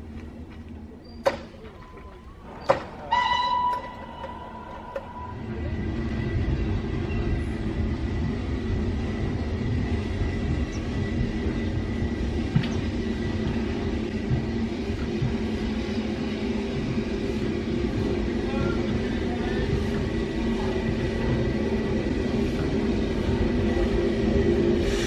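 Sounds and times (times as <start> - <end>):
steam locomotive rumbling on rails: 0.0 - 25.0.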